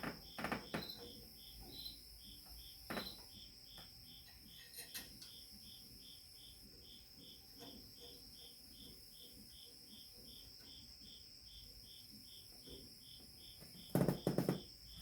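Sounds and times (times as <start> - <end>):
faint cricket chirping: 0.0 - 15.0.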